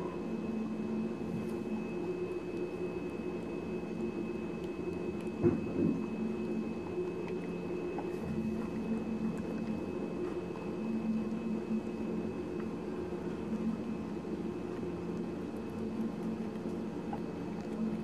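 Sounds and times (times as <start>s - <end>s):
rabbit chewing wetly: 0.0s - 18.0s
steady low hum: 0.0s - 18.0s.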